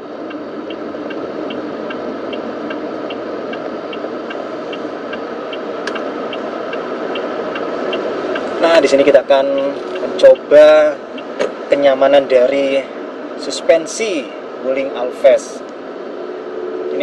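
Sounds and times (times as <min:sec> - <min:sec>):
turn signal ticking: 0:00.0 - 0:14.0
car cabin hum: 0:00.0 - 0:17.0.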